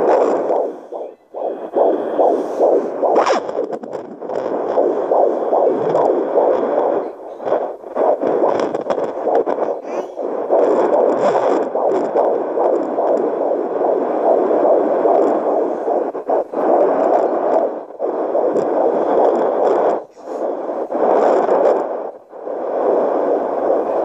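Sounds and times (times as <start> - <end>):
fetal heartbeat on doppler: 0.0 - 24.0.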